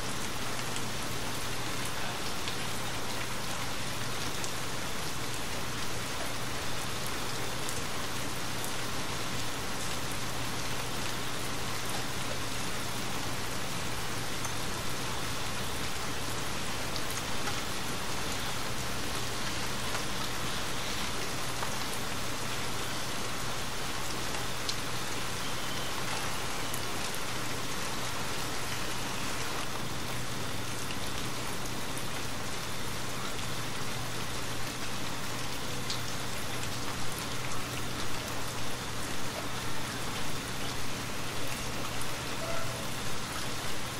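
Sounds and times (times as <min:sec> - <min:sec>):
steady rain hissing: 0:00.0 - 0:43.9.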